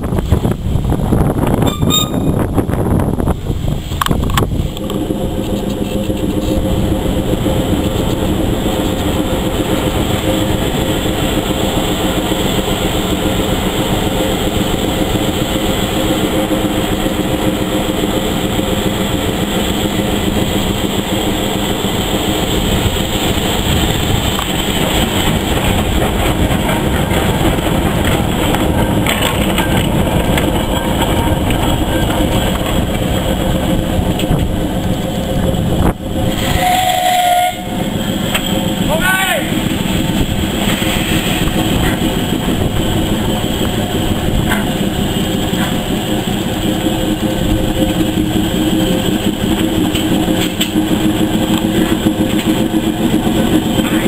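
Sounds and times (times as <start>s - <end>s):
steam locomotive running: 0.0s - 54.0s
steam hissing: 3.4s - 54.0s.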